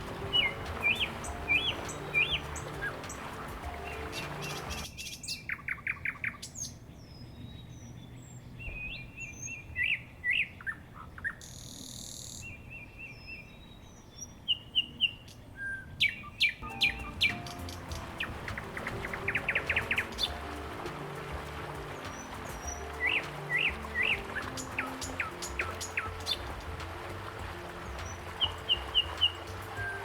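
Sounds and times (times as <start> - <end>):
small birds chirping and trilling: 0.0 - 30.0.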